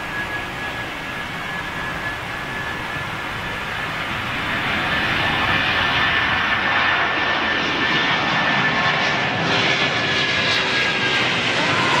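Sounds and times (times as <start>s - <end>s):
jet airliner taking off: 0.0s - 12.0s
jet engine whine: 0.0s - 12.0s.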